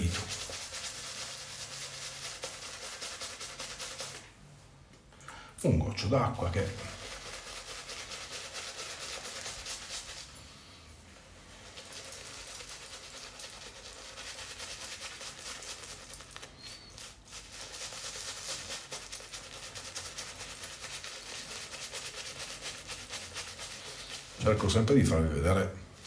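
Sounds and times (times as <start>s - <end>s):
shaving brush lathering on skin: 0.0s - 4.3s, 6.6s - 10.3s, 11.4s - 24.8s.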